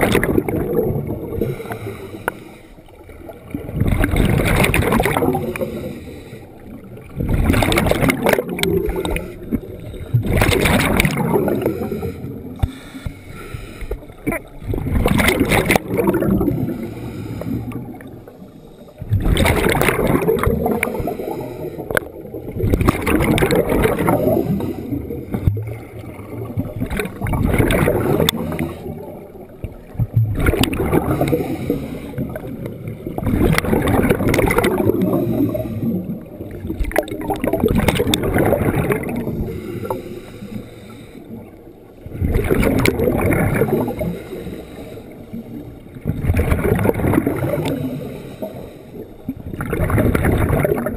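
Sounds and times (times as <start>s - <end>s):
scuba regulator exhaust bubbles: 0.0s - 50.9s.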